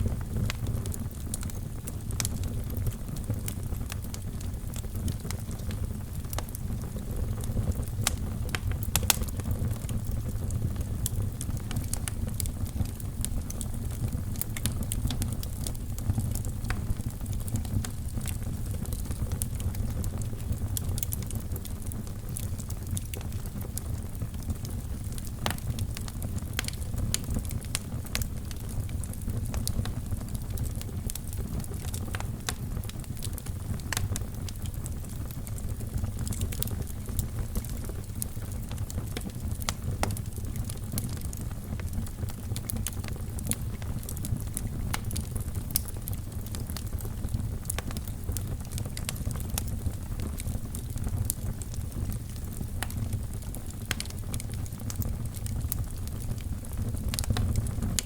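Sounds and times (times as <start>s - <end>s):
fire crackling and popping: 0.0s - 58.0s
fire flames rumbling: 0.0s - 58.0s.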